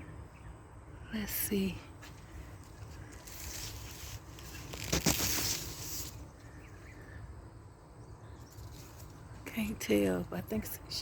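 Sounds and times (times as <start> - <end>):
rustling leaves and handling: 1.5 - 7.4, 8.0 - 11.0.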